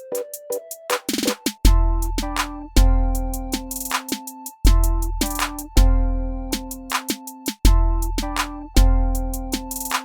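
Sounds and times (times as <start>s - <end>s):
electronic drums: 0.0s - 10.0s.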